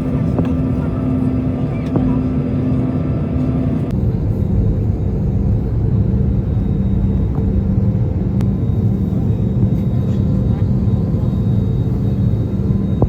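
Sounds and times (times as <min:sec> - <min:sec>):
airliner cabin engine rumble: 0:00.0 - 0:13.0
faint hum: 0:00.0 - 0:13.0.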